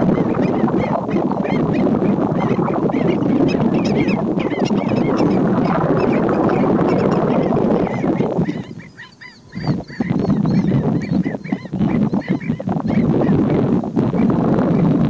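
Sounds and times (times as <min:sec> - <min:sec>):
birds yipping calls: 0:00.0 - 0:15.0.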